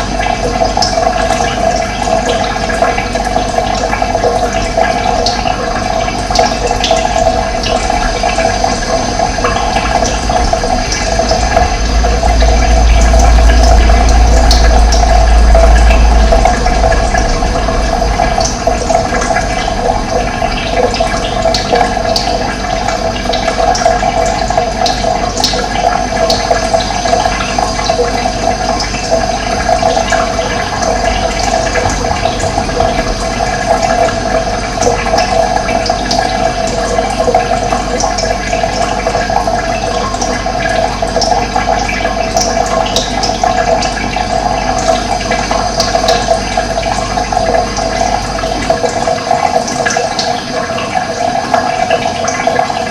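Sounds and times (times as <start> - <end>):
water splashing and rushing: 0.0 - 52.9.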